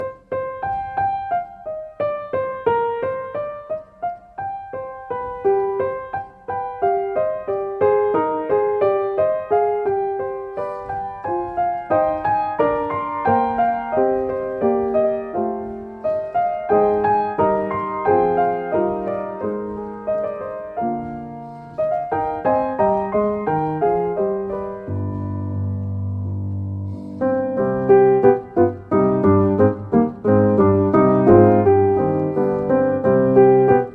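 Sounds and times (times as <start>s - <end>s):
piano music: 0.0s - 33.9s.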